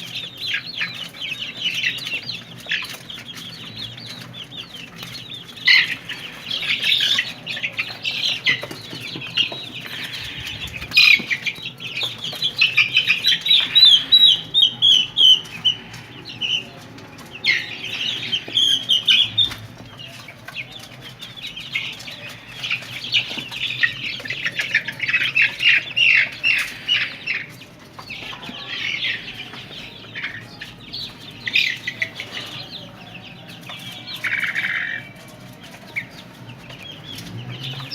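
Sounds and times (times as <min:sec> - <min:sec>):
chicks cheeping: 0:00.0 - 0:37.9.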